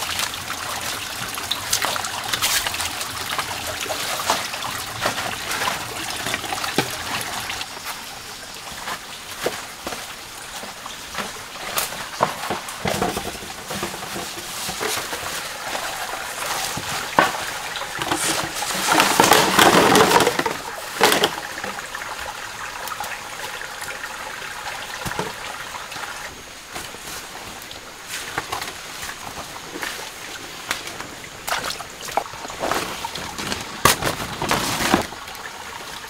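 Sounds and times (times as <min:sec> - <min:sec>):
water splashing and sloshing: 0:00.0 - 0:36.0.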